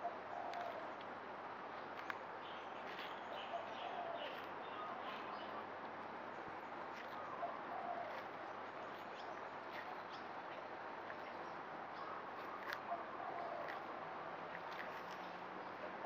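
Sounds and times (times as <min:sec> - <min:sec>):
birds chirping: 0:00.0 - 0:01.1, 0:01.7 - 0:16.0
steady background hiss: 0:00.0 - 0:16.0.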